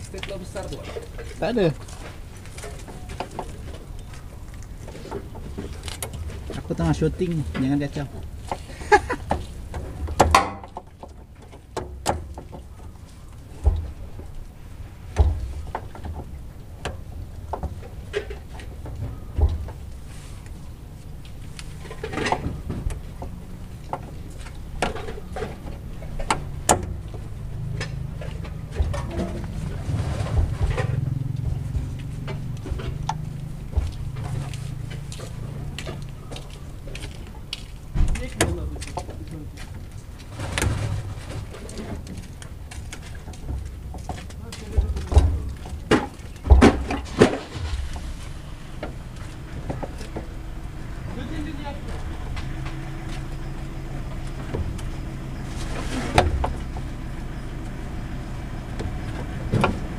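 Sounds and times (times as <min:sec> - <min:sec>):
steady low hum: 0:00.0 - 0:59.9
sharp clicks and knocks: 0:00.1 - 0:55.4.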